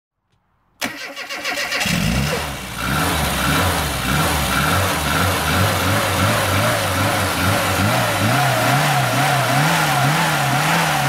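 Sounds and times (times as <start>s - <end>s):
car engine starting and running: 0.8s - 11.0s.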